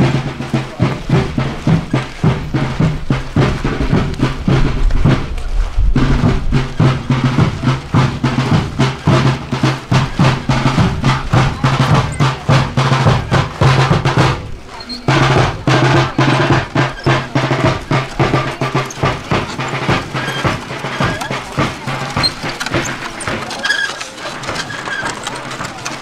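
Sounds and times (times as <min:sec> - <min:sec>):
snare and bass drum march cadence: 0:00.0 - 0:26.0.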